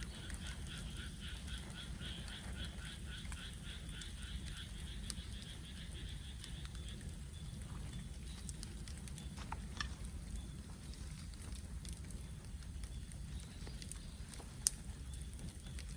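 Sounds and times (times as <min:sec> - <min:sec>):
bonfire crackling and popping: 0:00.0 - 0:15.9
low fire rumble: 0:00.0 - 0:15.9.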